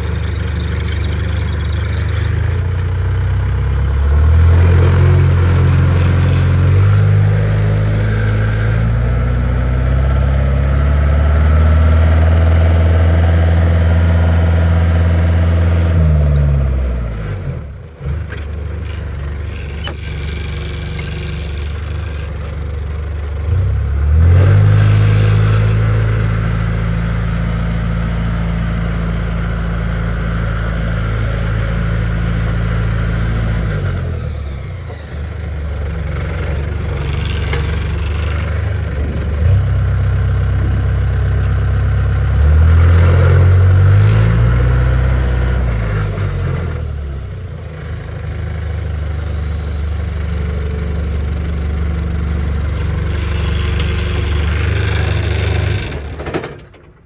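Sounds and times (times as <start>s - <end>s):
tow tractor engine running: 0.0s - 57.0s.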